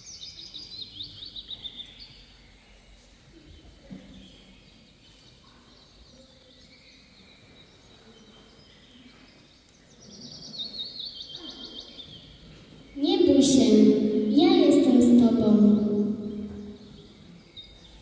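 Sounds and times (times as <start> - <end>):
faint birdsong: 0.0 - 14.4, 15.1 - 18.0.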